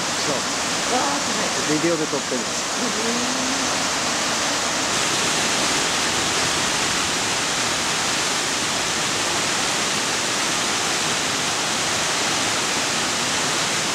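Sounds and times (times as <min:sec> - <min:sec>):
stream water rushing: 0:00.0 - 0:13.9.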